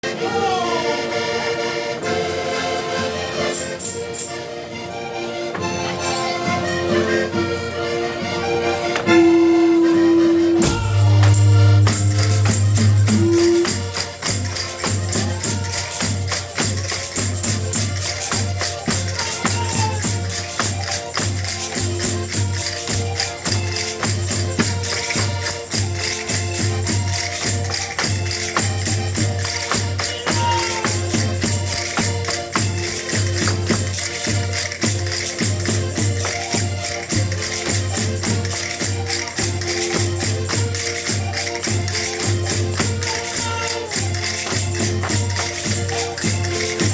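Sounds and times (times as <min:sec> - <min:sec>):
accordion folk-dance tune: 0:00.0 - 0:46.9
jingling tambourine percussion: 0:01.2 - 0:46.9.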